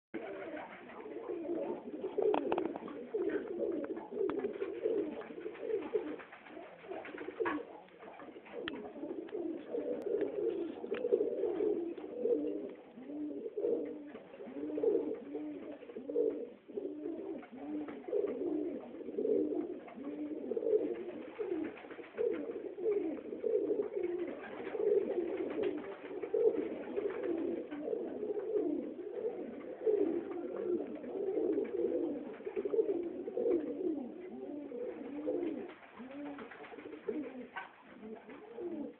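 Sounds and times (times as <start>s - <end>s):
pigeons cooing: 0.2s - 38.9s.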